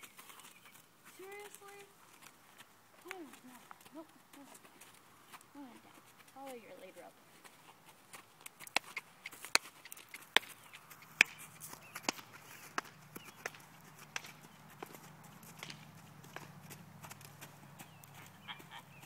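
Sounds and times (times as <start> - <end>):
hooves walking on sand: 0.0 - 19.0.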